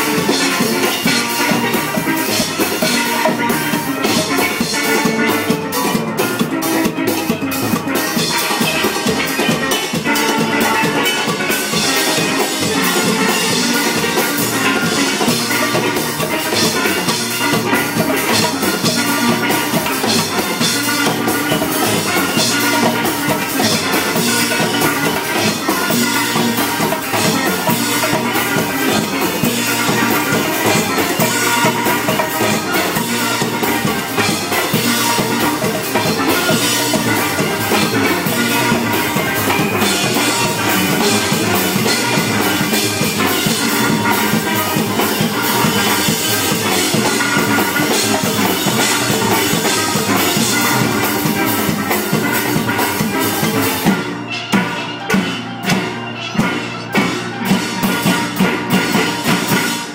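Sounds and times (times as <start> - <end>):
steel band playing: 0.0 - 59.9.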